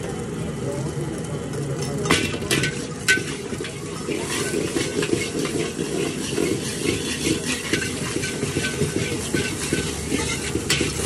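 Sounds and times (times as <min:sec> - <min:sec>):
metal spatula clanking on wok: 0:01.8 - 0:11.0
spatula stirring and scraping: 0:02.1 - 0:11.0.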